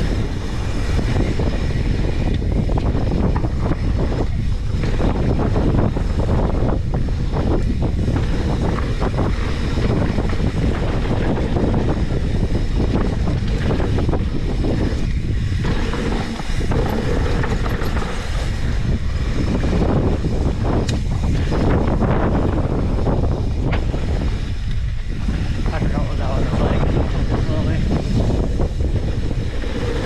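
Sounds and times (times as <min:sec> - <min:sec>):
low rumble: 0:00.0 - 0:30.0
wind buffeting microphone: 0:00.0 - 0:30.0.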